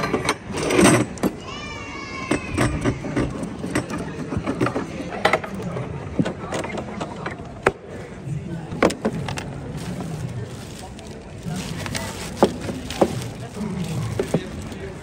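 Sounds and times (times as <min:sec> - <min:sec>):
street background murmur: 0:00.0 - 0:15.0.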